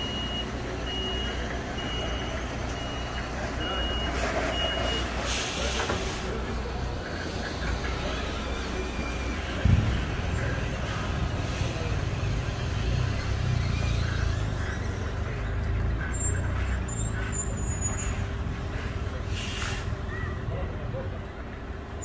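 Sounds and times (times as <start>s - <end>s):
truck diesel engine rumble: 0.0s - 22.0s.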